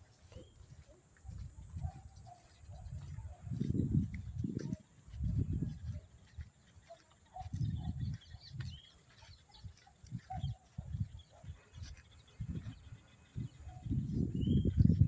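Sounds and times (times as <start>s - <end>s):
wind rumbling on microphone: 0.0s - 6.6s, 7.4s - 9.0s, 9.6s - 15.0s.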